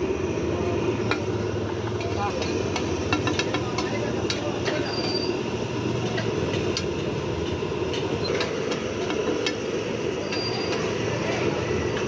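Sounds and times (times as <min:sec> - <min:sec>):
steady street rumble: 0:00.0 - 0:12.0.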